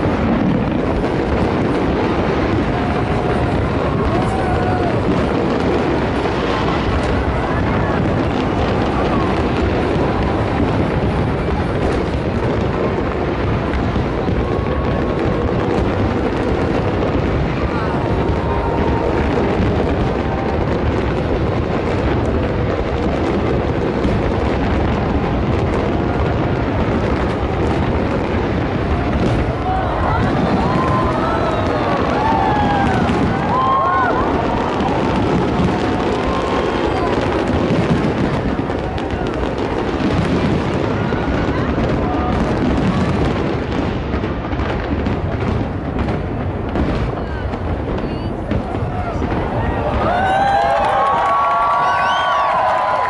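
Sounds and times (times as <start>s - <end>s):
fireworks bursting and crackling: 0.0s - 53.0s.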